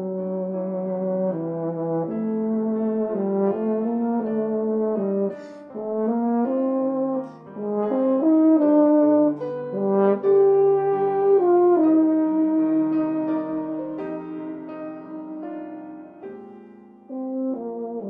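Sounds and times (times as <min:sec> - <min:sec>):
euphonium melody: 0:00.0 - 0:18.0
piano accompaniment: 0:00.0 - 0:18.0.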